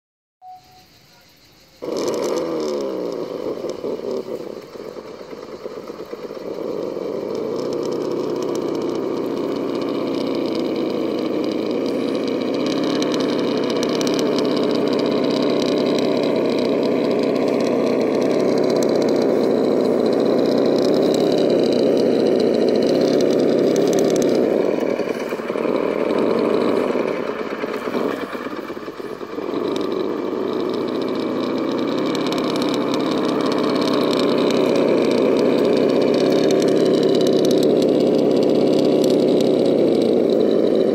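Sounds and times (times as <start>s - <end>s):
toy rock crawler motor droning: 1.6s - 40.9s.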